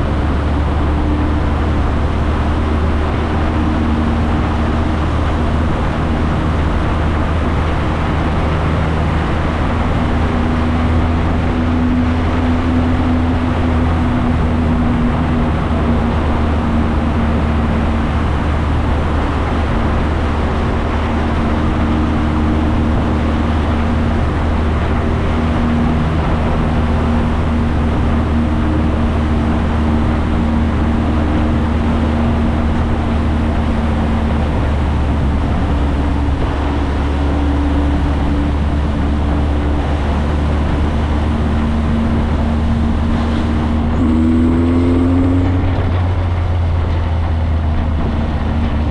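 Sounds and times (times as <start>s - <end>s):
motorcycle engine cruising: 0.0s - 48.9s
wind and road noise: 0.0s - 48.9s.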